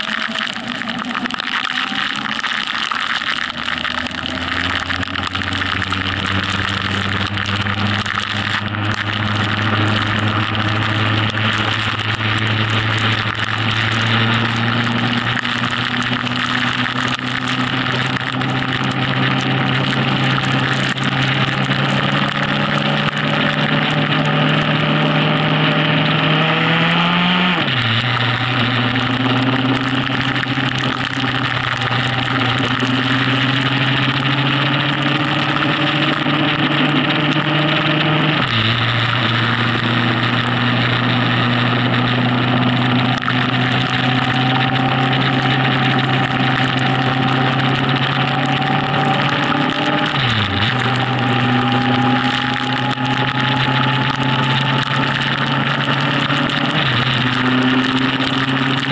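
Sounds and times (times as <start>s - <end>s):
motorcycle engine at speed: 0.0s - 58.9s.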